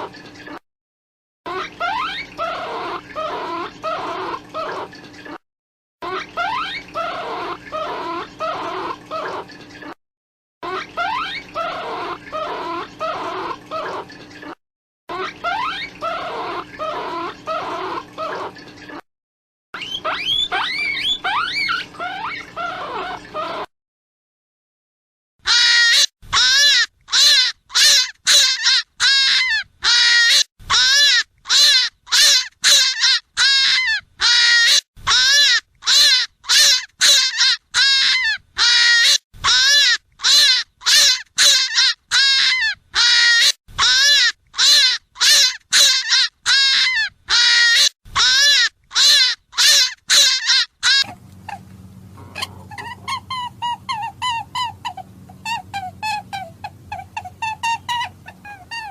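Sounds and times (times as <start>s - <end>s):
hare squealing cries: 1.5s - 5.4s, 6.0s - 9.6s, 10.6s - 14.2s, 15.1s - 18.6s, 19.8s - 23.7s, 25.4s - 51.6s, 52.2s - 58.9s.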